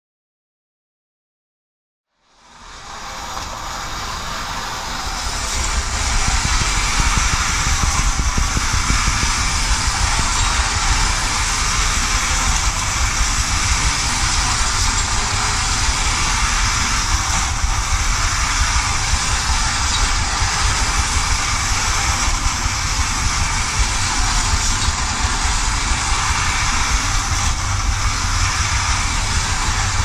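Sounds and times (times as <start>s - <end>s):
clockwork tin toy rattling: 4.5s - 30.0s.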